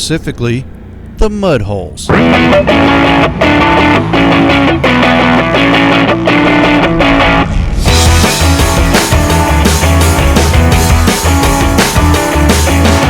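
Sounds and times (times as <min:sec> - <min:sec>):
rock music with electric guitar: 0:02.1 - 0:13.0.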